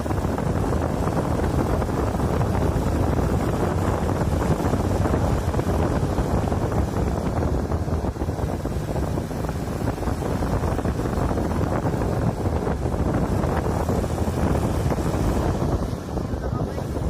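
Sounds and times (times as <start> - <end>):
road and engine rumble: 0.0 - 17.0
wind buffeting microphone: 0.0 - 17.0.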